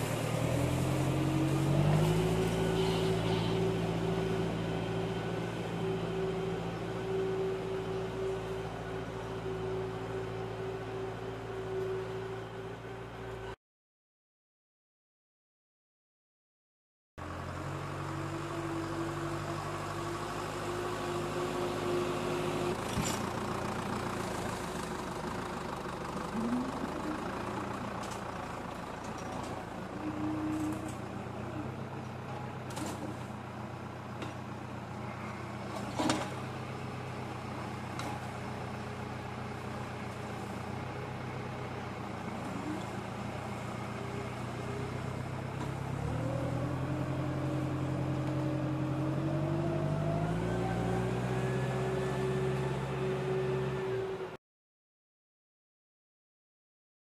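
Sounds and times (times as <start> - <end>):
tractor diesel engine running: 0.0 - 13.6, 17.2 - 54.4.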